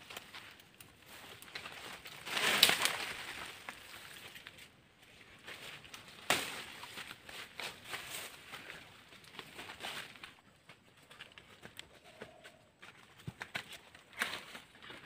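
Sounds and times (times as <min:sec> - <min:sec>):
twigs cracking: 0:00.0 - 0:12.6, 0:13.2 - 0:15.0
branches and undergrowth rustling: 0:00.0 - 0:15.0.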